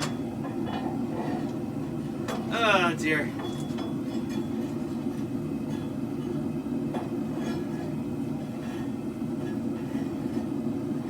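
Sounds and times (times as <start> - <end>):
forge burners rushing: 0.0 - 11.0.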